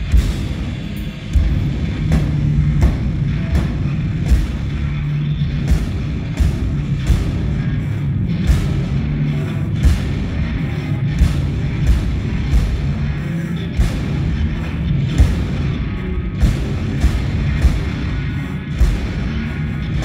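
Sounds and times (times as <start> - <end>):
heavy drum hits: 0.0 - 20.0
heavy rock band playing: 0.0 - 20.0.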